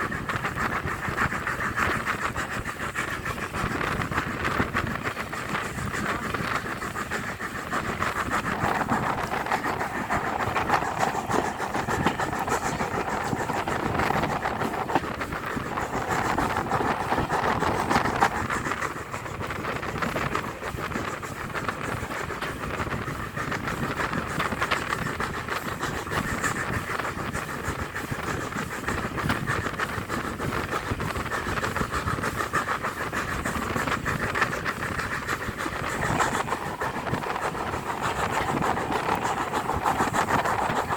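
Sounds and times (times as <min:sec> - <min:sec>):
train rumbling: 0:00.0 - 0:40.9
wheels clattering on rails: 0:00.0 - 0:40.9.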